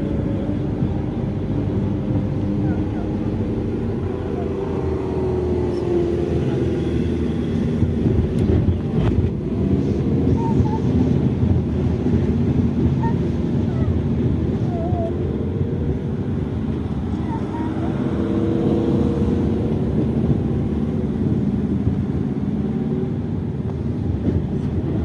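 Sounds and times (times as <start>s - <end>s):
car engine inside cabin: 0.0s - 25.0s
road noise: 0.0s - 25.0s.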